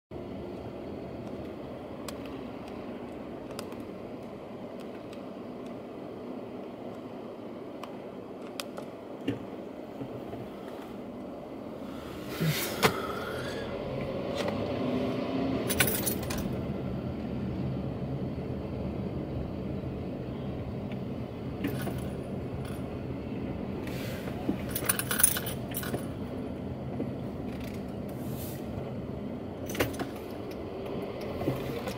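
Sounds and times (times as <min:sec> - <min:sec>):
car road and engine noise: 0:00.1 - 0:31.9.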